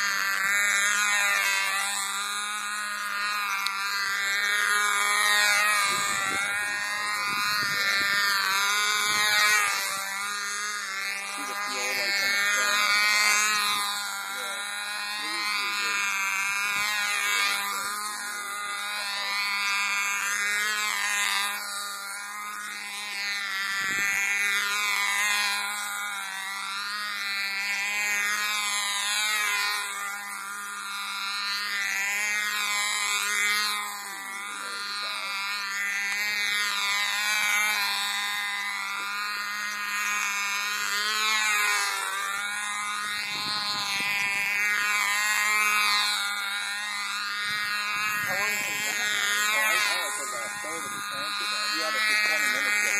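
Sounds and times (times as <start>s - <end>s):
model airplane engine buzzing: 0.0s - 52.9s.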